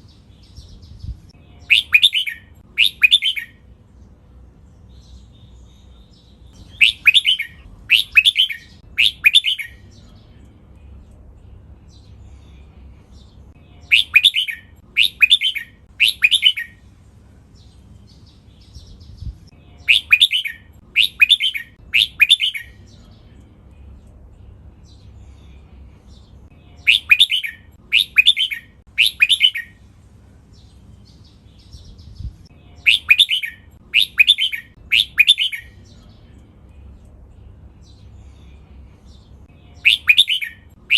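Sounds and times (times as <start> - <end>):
bird singing bright phrases: 0.0 - 40.9
faint low hum: 0.0 - 40.9.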